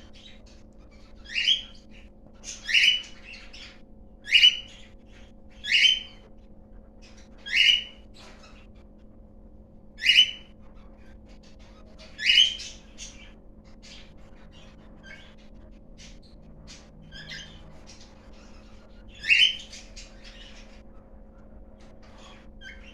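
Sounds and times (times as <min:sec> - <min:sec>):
bird squawking: 0:00.0 - 0:06.2, 0:07.1 - 0:08.6, 0:10.0 - 0:20.8.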